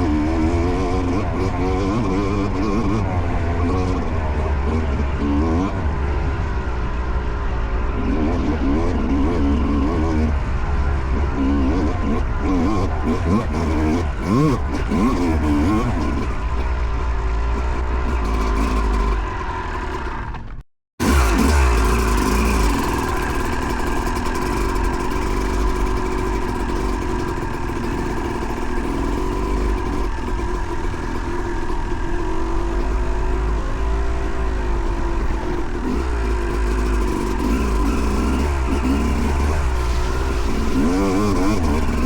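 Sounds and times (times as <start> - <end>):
two-stroke dirt bike engine revving: 0.0 - 42.0
wind and riding noise: 0.0 - 42.0.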